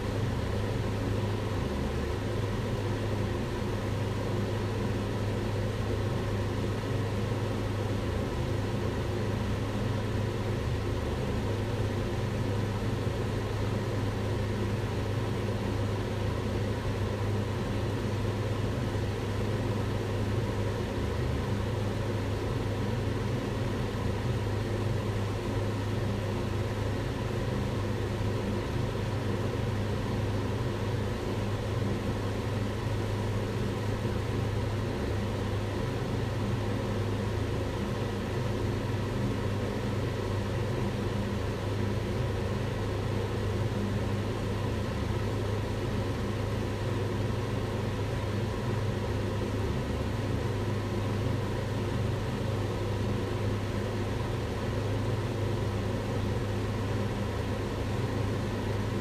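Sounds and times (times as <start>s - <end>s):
range hood fan whooshing drone: 0.0s - 59.0s.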